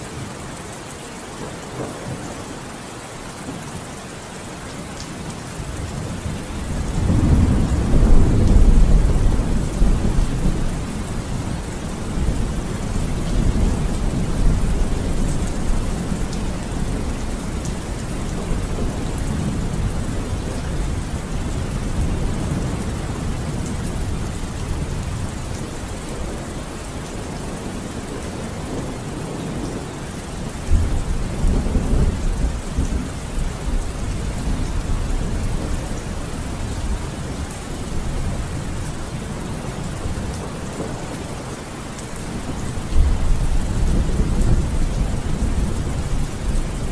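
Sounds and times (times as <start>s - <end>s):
steady rain: 0.0s - 46.9s
rolling thunder rumbles: 5.6s - 41.5s, 42.2s - 46.9s.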